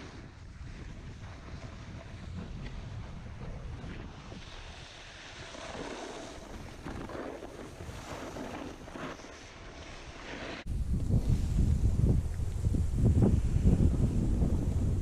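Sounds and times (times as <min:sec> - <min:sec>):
snowboard scraping icy snow: 0:00.0 - 0:12.2
wind buffeting microphone: 0:00.0 - 0:15.0.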